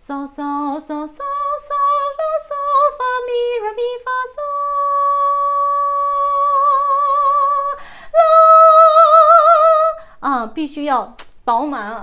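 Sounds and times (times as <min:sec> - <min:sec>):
woman singing unaccompanied: 0:00.0 - 0:10.3.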